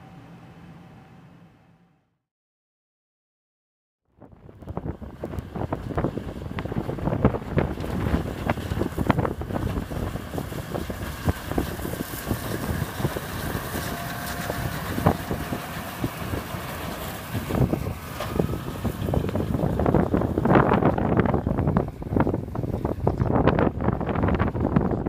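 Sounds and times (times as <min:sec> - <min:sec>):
farm machinery running: 0:00.0 - 0:01.6, 0:04.8 - 0:25.0
wind buffeting microphone: 0:04.2 - 0:25.0.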